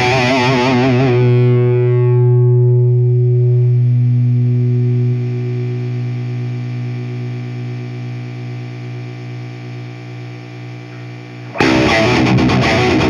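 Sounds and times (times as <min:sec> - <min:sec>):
distorted electric guitar note: 0:00.0 - 0:13.0
low amplifier hum: 0:00.0 - 0:13.0.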